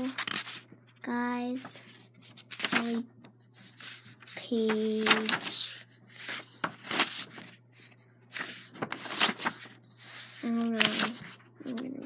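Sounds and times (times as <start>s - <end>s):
book pages flipping: 0.0s - 12.0s.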